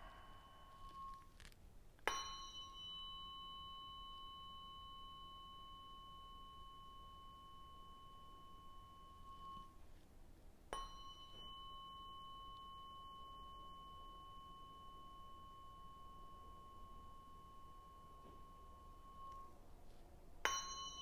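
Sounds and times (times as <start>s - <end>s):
tuning fork ringing: 0.0s - 21.0s.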